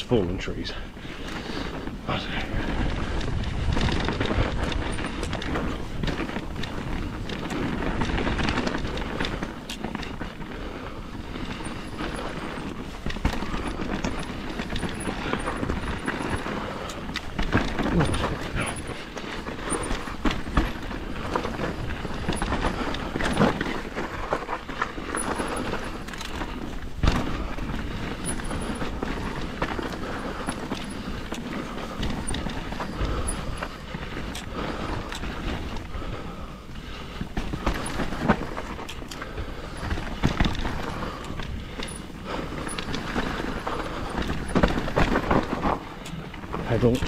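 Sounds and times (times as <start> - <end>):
bike tyres rumbling on dirt: 0.0 - 47.0
bike rattling and knocking: 1.0 - 47.0.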